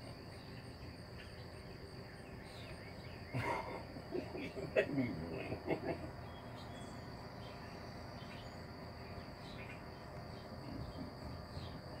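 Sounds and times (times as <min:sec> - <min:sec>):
insects trilling: 0:00.0 - 0:12.0
low outdoor rumble: 0:00.0 - 0:12.0.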